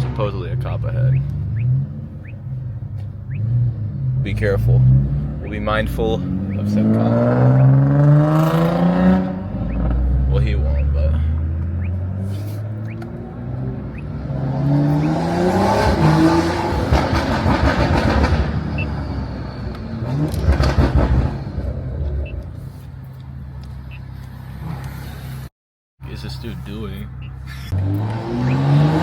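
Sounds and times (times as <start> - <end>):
car engine accelerating hard: 0.0 - 22.6, 27.7 - 29.0.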